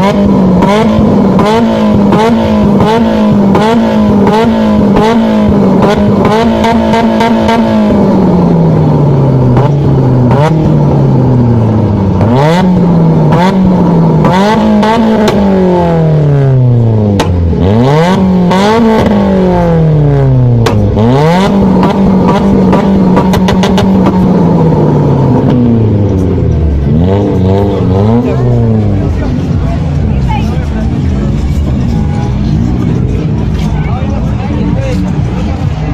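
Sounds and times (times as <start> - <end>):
car engine revving hard: 0.0 - 35.9.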